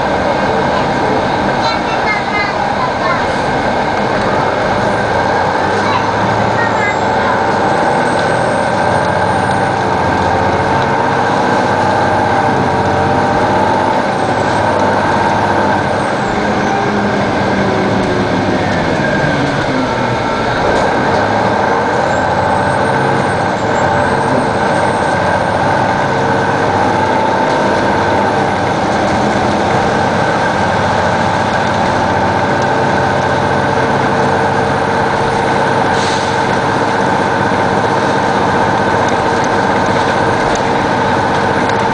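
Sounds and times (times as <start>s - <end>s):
diesel bus engine running: 0.0s - 41.9s.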